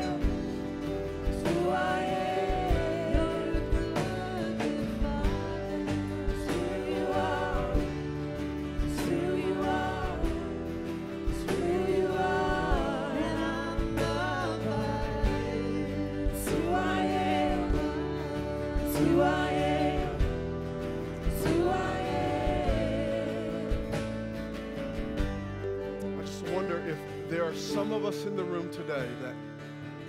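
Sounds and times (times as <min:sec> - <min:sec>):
voices singing gospel chorus: 0:00.0 - 0:25.5
strummed acoustic guitars: 0:00.0 - 0:30.0.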